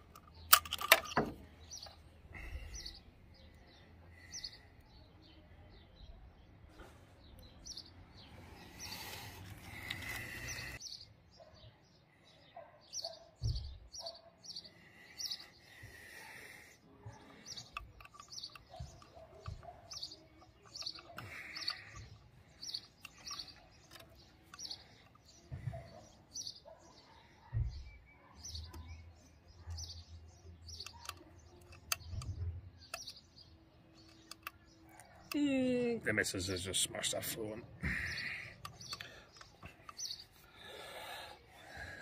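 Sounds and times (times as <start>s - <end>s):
small bird chirping: 0.0s - 36.6s, 37.4s - 41.9s.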